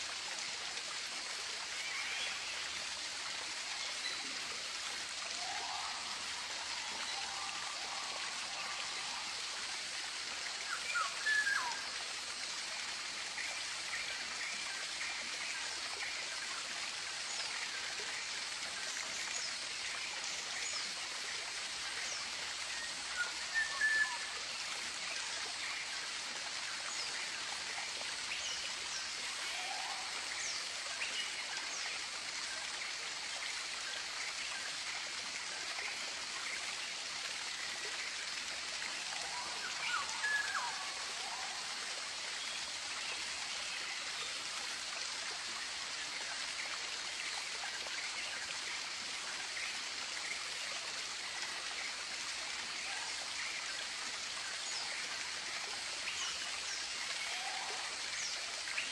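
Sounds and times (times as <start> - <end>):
running water hiss: 0.0 - 58.9.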